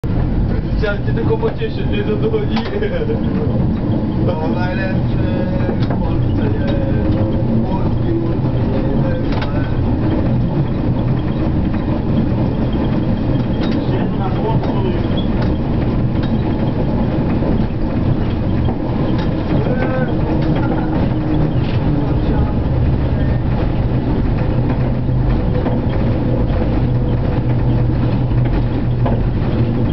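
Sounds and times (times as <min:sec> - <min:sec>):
tram rumbling on rails: 0:00.0 - 0:29.9.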